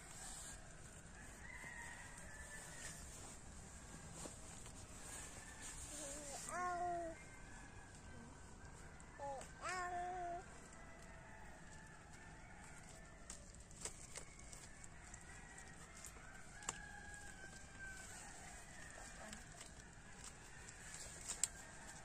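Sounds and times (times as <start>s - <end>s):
distant rooster crowing: 0.0s - 13.5s, 14.1s - 22.0s.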